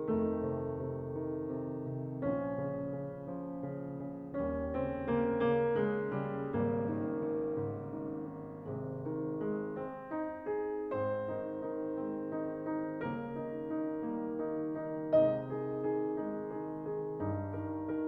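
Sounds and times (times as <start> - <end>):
slow piano notes and chords: 0.0 - 18.0.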